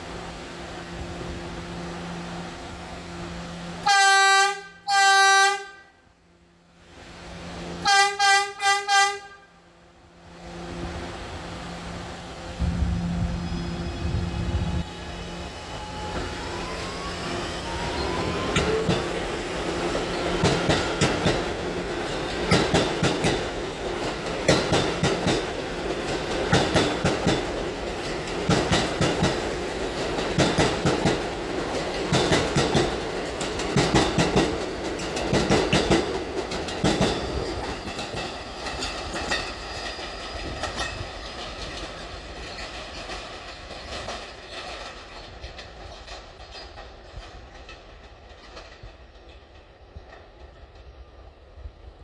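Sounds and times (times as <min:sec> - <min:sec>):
subway train wheels clacking: 0:06.4 - 0:52.0.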